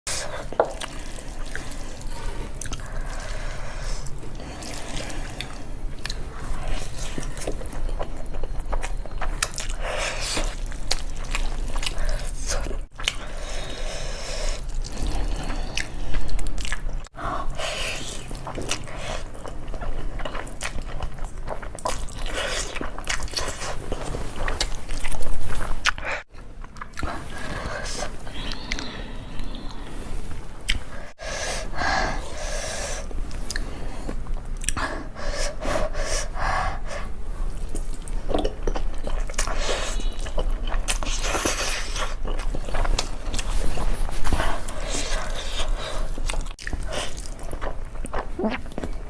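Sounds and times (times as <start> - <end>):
slurping and chewing noodles: 0.1 - 30.0, 30.7 - 49.0.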